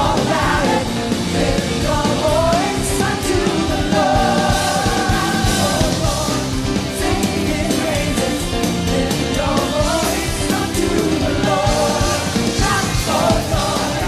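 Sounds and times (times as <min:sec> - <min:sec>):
pop-rock band playing: 0:00.0 - 0:14.0.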